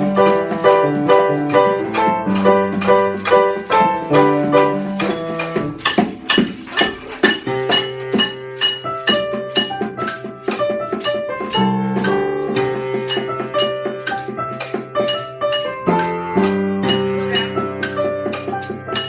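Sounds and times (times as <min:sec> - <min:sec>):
struck pitched notes beat: 0:00.0 - 0:19.0.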